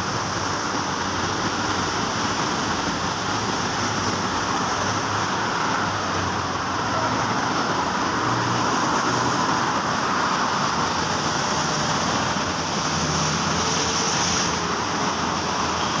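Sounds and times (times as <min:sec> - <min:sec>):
traffic on wet roads: 0:00.0 - 0:16.0.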